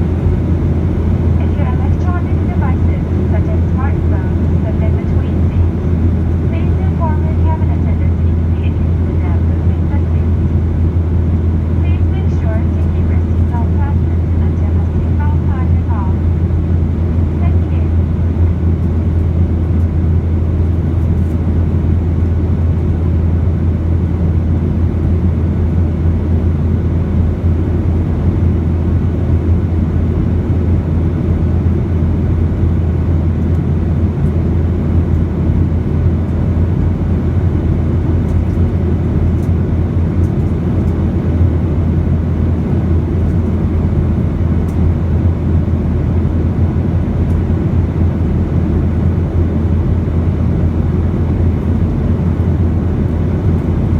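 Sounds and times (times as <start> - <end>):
airplane cabin engine drone: 0.0 - 53.9.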